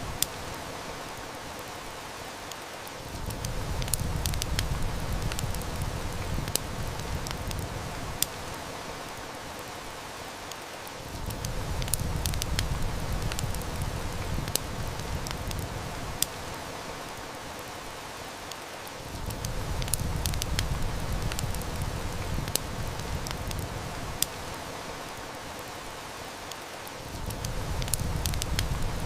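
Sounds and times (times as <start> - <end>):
heavy rain: 0.0 - 29.0
wood fire crackling: 0.0 - 29.0.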